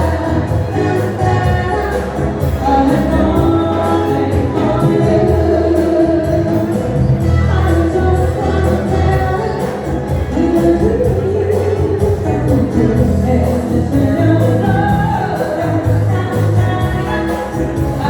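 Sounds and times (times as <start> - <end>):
dance band music with singer: 0.0 - 18.0.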